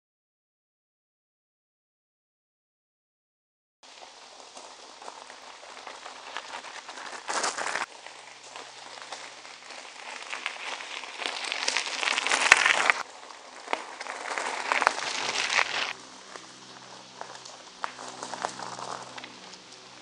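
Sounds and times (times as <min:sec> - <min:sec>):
tyre crunching over gravel: 0:03.8 - 0:20.0.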